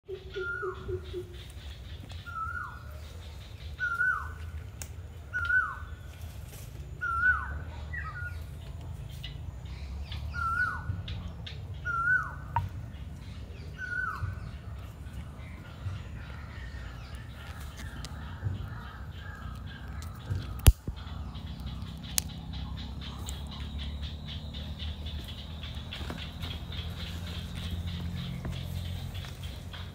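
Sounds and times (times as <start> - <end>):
bird calling: 0.0 - 4.6, 5.2 - 6.1, 6.9 - 8.6, 9.2 - 29.9.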